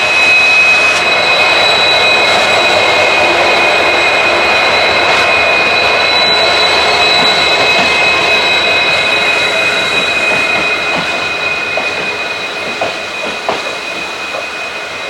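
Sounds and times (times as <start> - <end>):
high-pitched tones: 0.0 - 15.0
train running noise: 0.0 - 15.0.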